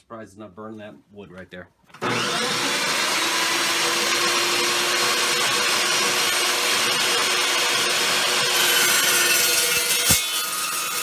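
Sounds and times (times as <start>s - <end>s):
cold saw cutting steel: 2.0s - 11.0s.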